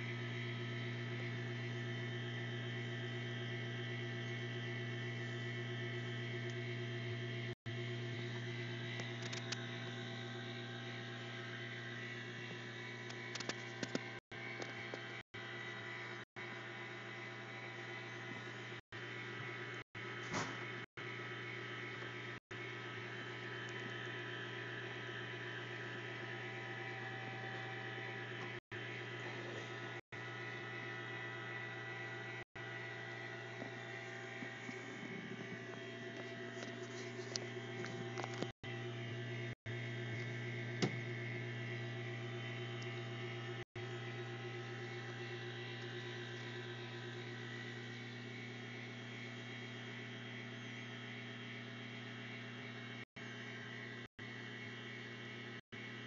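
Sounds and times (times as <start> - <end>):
electric motor hum: 0.0 - 56.0.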